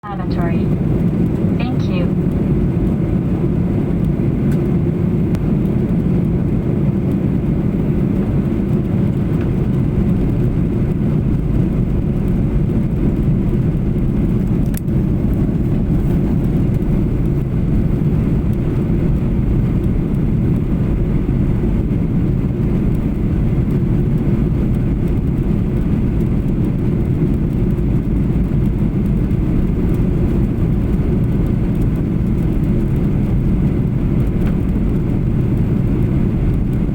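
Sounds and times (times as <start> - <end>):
airplane cabin rumble: 0.0 - 36.9.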